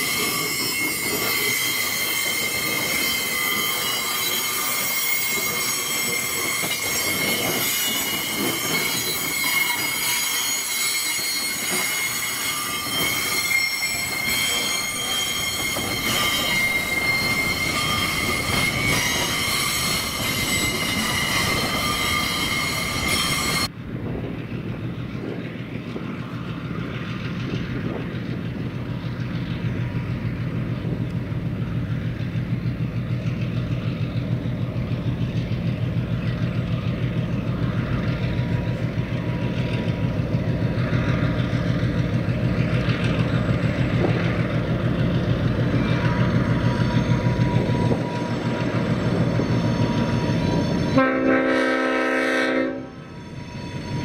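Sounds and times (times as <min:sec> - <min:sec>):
steel wheels squealing on rail: 0:00.0 - 0:23.7, 0:24.4 - 0:54.0
diesel locomotive engines droning: 0:00.0 - 0:54.0.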